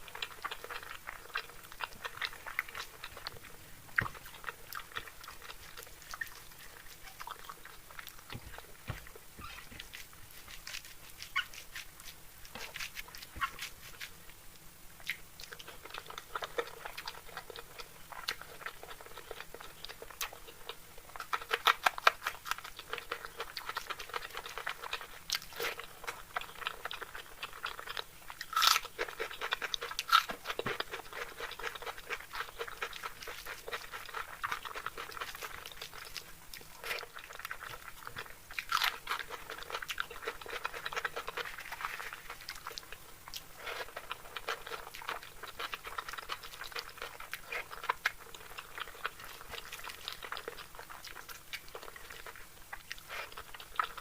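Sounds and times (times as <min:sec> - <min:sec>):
chewing and mouth clicks: 0:00.0 - 0:14.3, 0:15.0 - 0:54.0.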